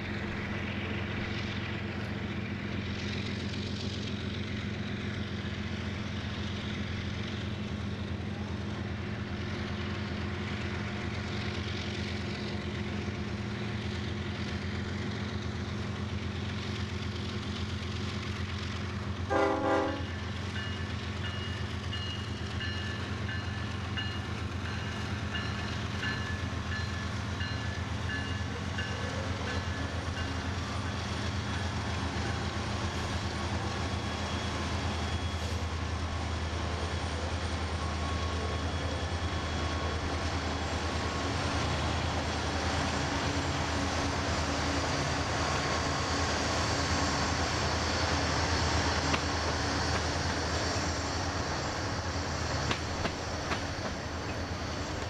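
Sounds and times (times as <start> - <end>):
locomotives droning: 0.0 - 55.0
steel wheels hissing on rails: 0.0 - 55.0.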